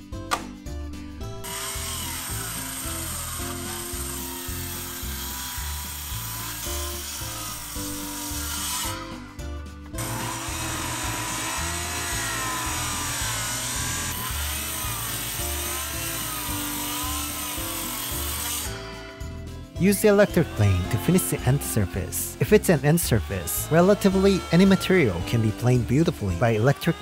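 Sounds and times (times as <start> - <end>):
background music with steady beat: 0.0 - 27.0
circular saw cutting wood: 1.4 - 9.4, 10.0 - 27.0.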